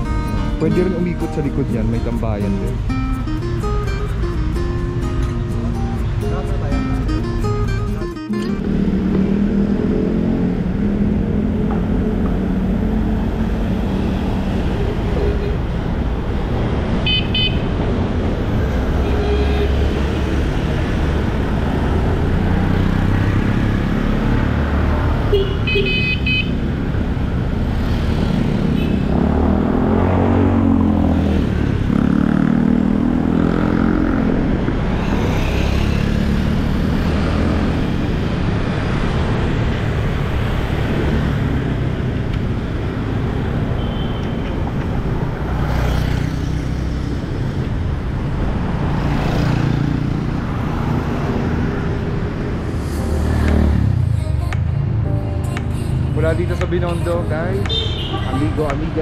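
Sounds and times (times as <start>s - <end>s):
cars and motorcycles running: 0.0s - 59.0s
road and wind rumble: 0.0s - 59.0s.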